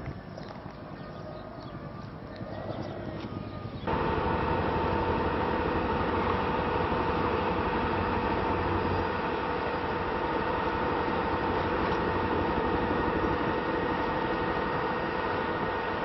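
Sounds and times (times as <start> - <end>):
constant high whine: 0.0 - 16.0
vehicle running noise: 2.0 - 16.0.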